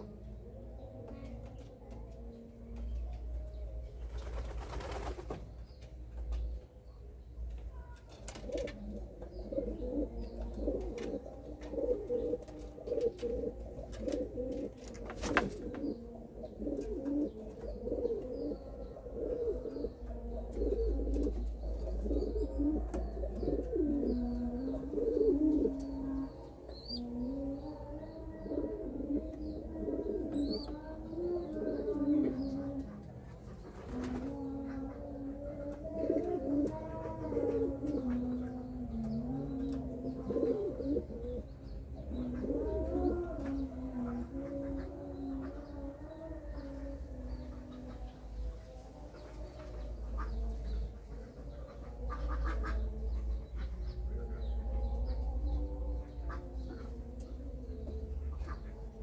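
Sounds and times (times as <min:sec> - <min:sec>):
pigeons cooing: 0:00.0 - 0:05.8, 0:06.4 - 0:59.0.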